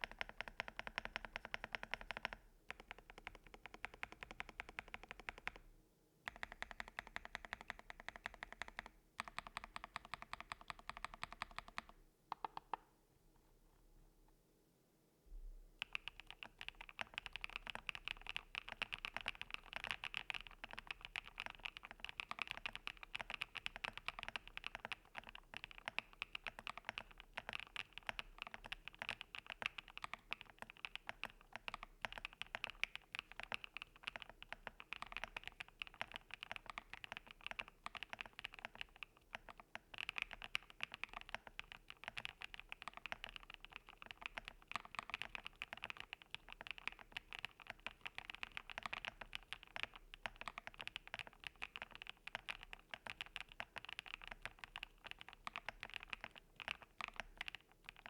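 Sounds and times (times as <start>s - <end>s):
fast mechanical keyboard typing: 0.0s - 5.6s, 6.3s - 12.8s, 15.8s - 58.0s.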